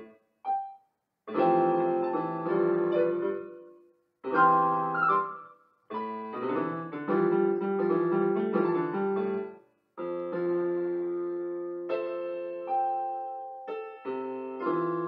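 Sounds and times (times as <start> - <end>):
electronic keyboard piano chords: 0.0 - 15.0.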